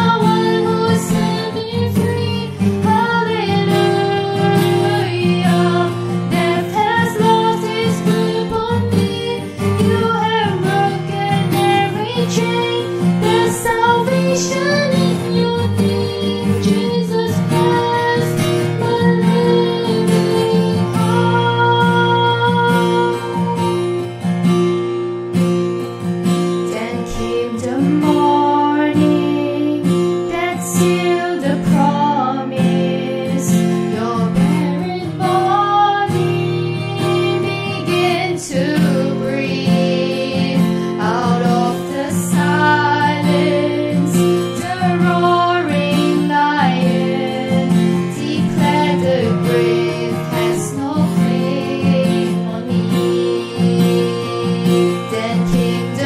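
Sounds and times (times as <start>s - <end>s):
woman singing: 0.0s - 24.2s, 26.5s - 56.0s
strummed acoustic guitar: 0.0s - 56.0s.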